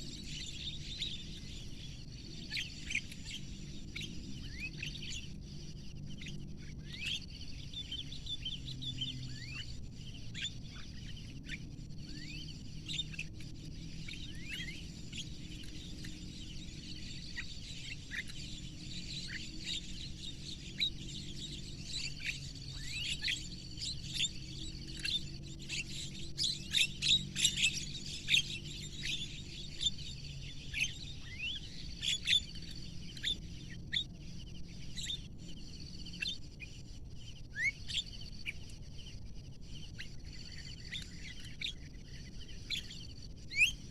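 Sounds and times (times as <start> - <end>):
birds chirping and calling: 0.0 - 43.9
faint steady low hum: 0.0 - 43.9.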